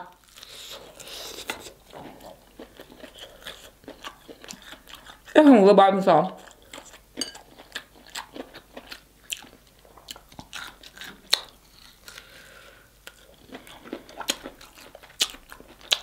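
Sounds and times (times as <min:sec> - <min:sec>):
mouth chewing meat: 0:00.1 - 0:05.4, 0:06.3 - 0:16.0.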